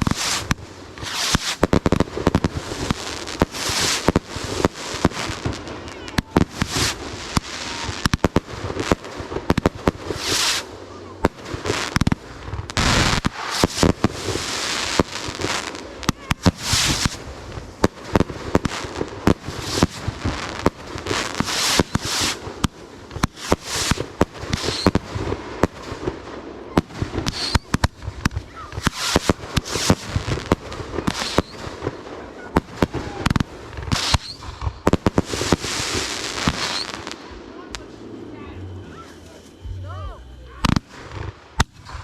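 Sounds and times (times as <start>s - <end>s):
fireworks bangs and pops: 0.0s - 38.2s, 40.6s - 42.0s
fireworks crackling and hissing: 0.0s - 42.0s.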